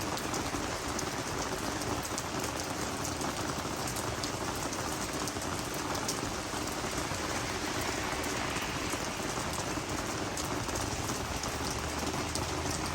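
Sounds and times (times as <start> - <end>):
rain falling on plants: 0.0 - 12.9.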